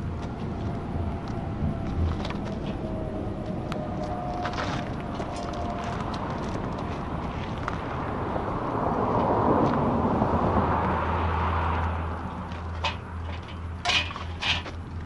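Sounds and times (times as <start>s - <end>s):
vehicle passing by: 0.0s - 13.8s.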